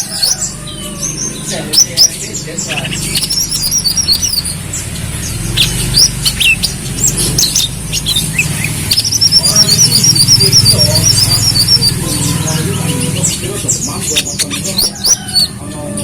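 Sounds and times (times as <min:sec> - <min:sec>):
steady low hum: 0:00.0 - 0:15.6
sunbird chirping and trilling: 0:00.0 - 0:16.0.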